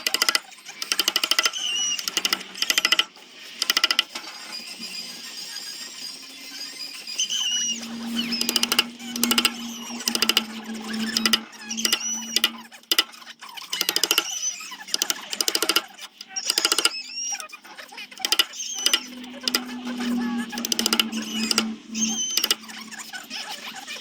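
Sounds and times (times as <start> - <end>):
squeaks: 3.7 - 24.0.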